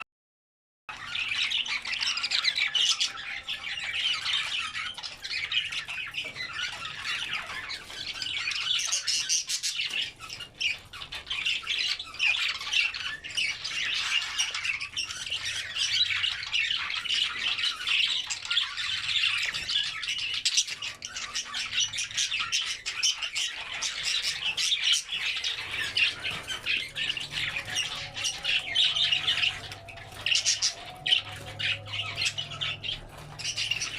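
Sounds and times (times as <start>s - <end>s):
budgerigars chattering and squawking: 0.9s - 33.9s.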